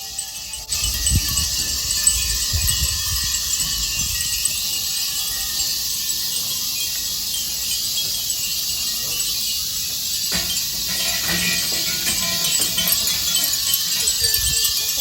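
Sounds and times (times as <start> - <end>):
drone of insects: 0.0 - 15.0
wind chimes tinkling: 0.0 - 15.0.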